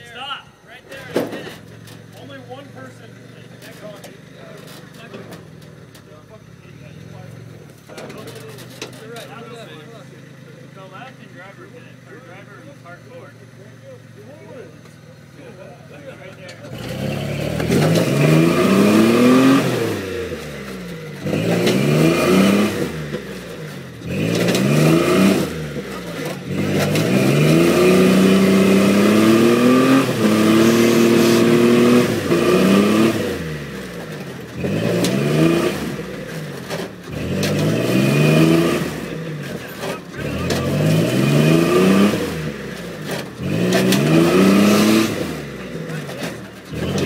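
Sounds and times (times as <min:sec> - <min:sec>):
pickup engine revving: 0:00.0 - 0:47.0.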